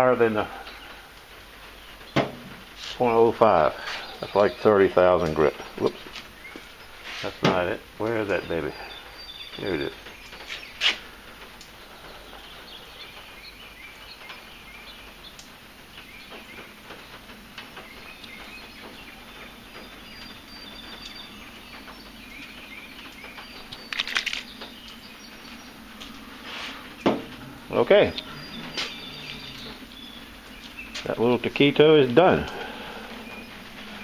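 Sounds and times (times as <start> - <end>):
birds chirping faintly: 0.0 - 34.0.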